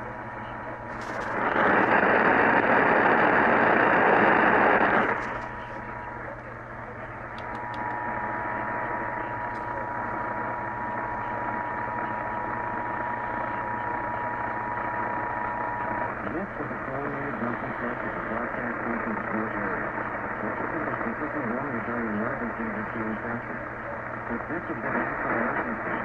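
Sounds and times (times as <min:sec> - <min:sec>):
radio static hiss: 0:00.0 - 0:26.0.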